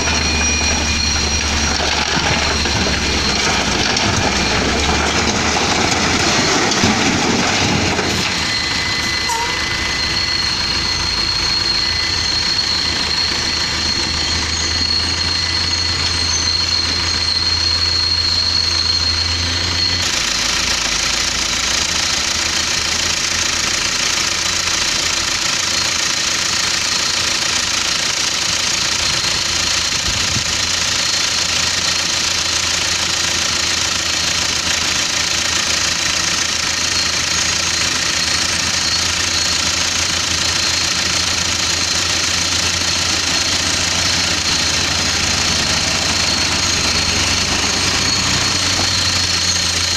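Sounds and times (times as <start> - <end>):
diesel truck engine clattering: 0.0 - 49.9.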